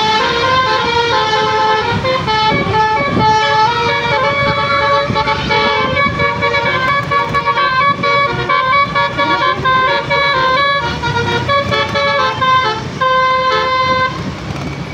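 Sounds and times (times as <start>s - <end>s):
multi-tone bus horn tune: 0.0s - 14.3s
bus engine rumble: 0.0s - 14.9s.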